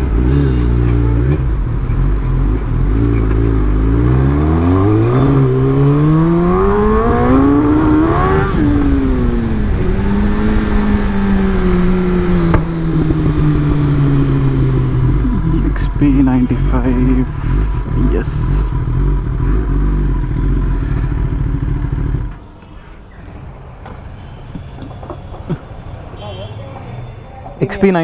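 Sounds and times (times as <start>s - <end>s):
motorcycle engine revving: 0.0s - 22.4s.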